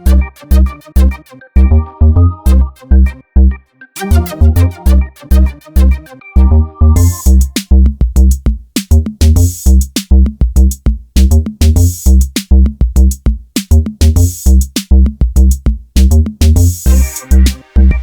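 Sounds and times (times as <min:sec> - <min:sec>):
electronic drum beat music: 0:00.0 - 0:01.2, 0:02.5 - 0:02.7, 0:04.0 - 0:18.0.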